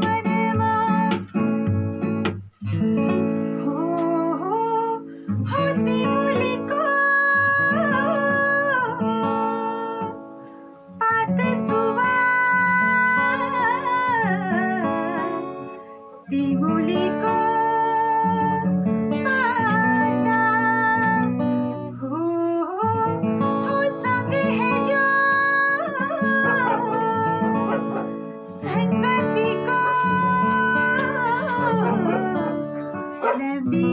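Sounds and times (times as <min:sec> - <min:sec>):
woman singing: 0:00.0 - 0:01.8, 0:03.2 - 0:10.2, 0:10.9 - 0:33.9
acoustic guitar: 0:00.0 - 0:33.9.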